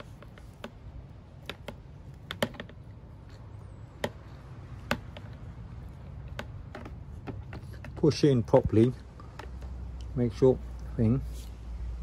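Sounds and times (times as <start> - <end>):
sharp plastic clicks: 0.0 - 10.2.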